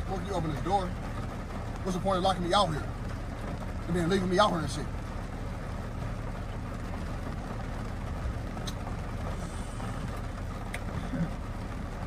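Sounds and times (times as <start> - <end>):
heavy rain on car: 0.0 - 12.0.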